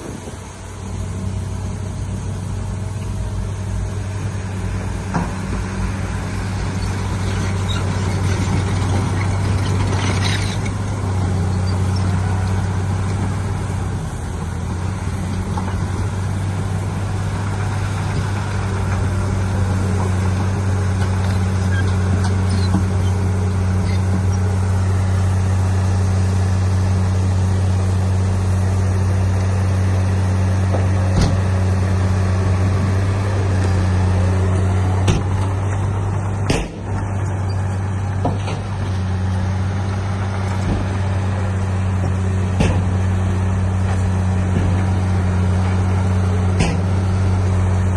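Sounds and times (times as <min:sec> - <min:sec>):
heavy diesel machinery engine drone: 0:00.0 - 0:47.9.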